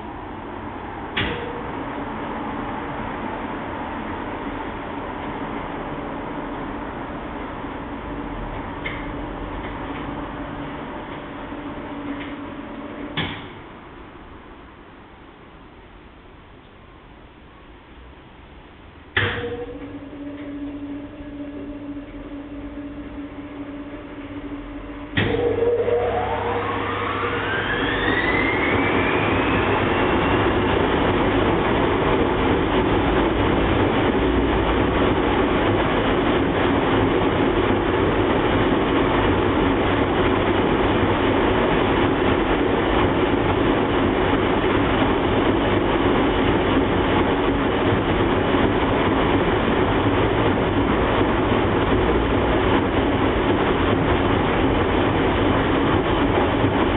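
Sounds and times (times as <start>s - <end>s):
washing machine spinning: 0.0s - 56.9s.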